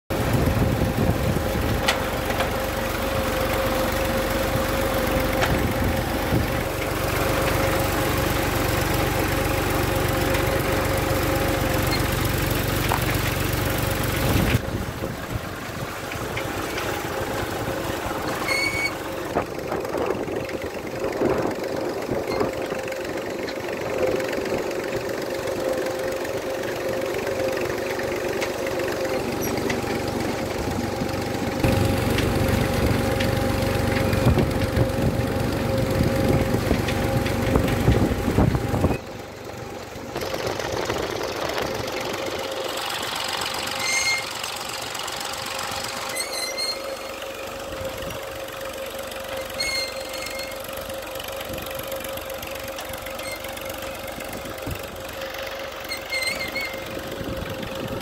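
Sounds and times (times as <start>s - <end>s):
tractor diesel engine rumbling: 0.1s - 58.0s.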